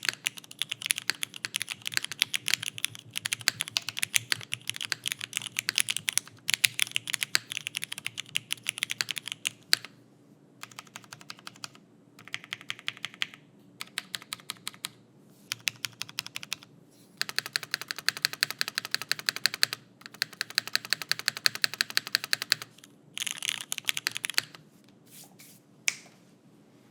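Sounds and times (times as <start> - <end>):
mechanical keyboard typing: 0.0 - 9.9, 10.6 - 24.6.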